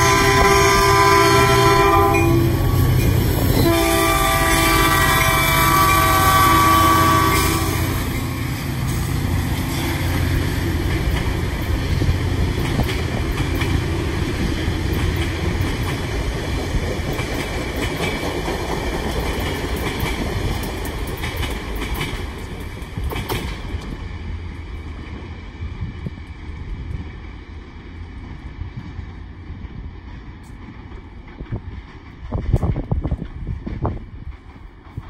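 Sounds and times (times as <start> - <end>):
train rushing past: 0.0 - 35.0.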